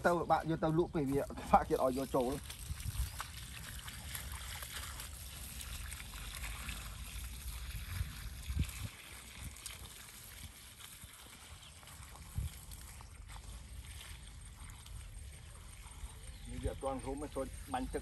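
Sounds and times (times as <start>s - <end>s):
water trickling onto soil: 0.0s - 18.0s.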